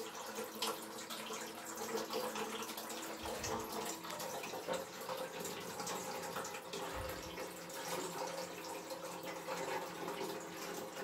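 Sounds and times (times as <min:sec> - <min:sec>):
cistern refilling with water: 0:00.0 - 0:11.0.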